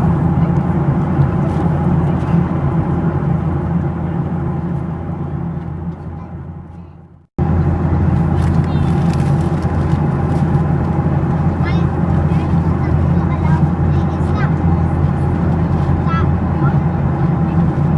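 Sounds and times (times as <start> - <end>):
airplane cabin drone: 0.0 - 17.9.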